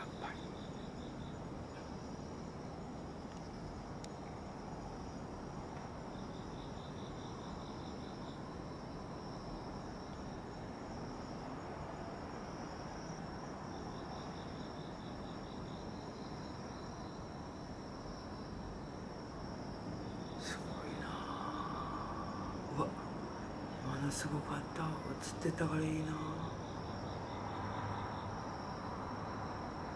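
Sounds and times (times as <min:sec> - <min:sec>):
insect pulsed chirping: 0:00.0 - 0:11.6, 0:12.2 - 0:29.9
crickets trilling: 0:00.0 - 0:29.9.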